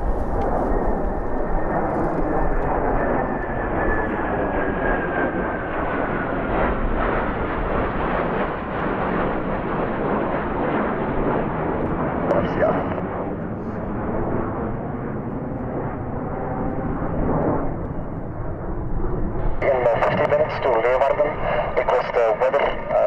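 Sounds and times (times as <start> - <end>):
fighter jet engine roaring: 0.0 - 23.0.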